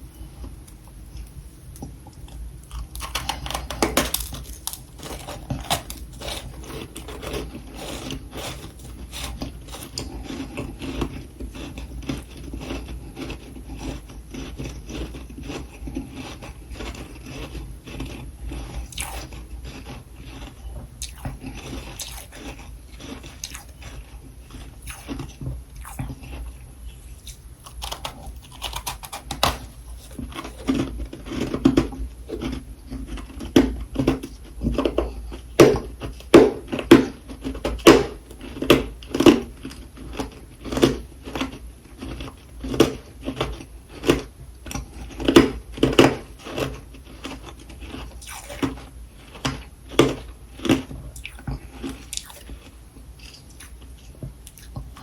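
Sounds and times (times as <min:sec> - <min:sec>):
crunchy chewing: 0:00.1 - 0:55.0.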